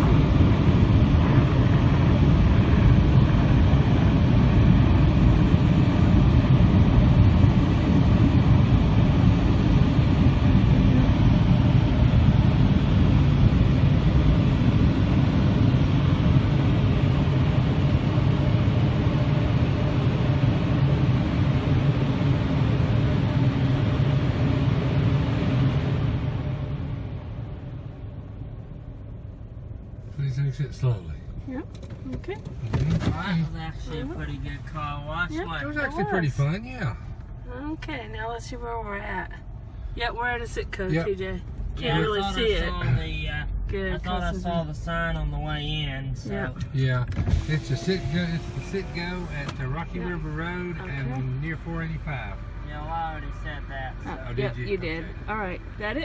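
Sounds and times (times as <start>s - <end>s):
car wash jets rumbling rush: 0.0s - 56.0s.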